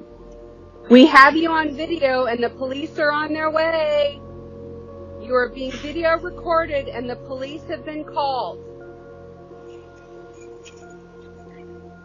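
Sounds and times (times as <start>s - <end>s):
ambient music sustained tones: 0.0s - 12.0s.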